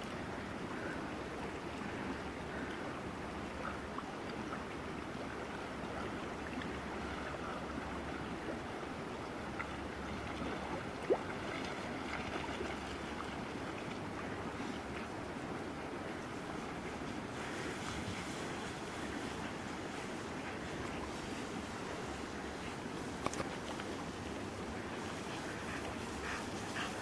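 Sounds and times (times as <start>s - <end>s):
river water rushing and lapping: 0.0s - 27.0s.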